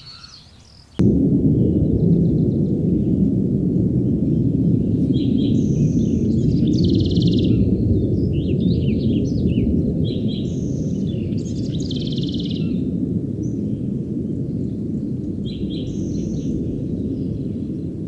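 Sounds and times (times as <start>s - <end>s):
songbird singing: 0.0s - 18.0s
low rushing noise: 1.0s - 18.0s.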